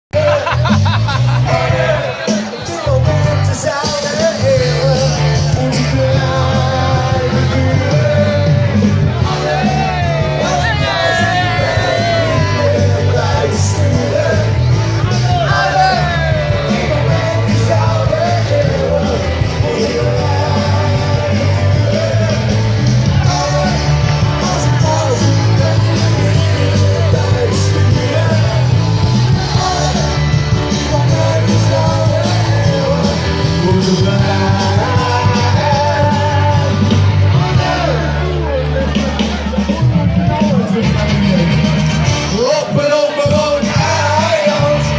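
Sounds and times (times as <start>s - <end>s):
live band with singer: 0.1s - 44.9s.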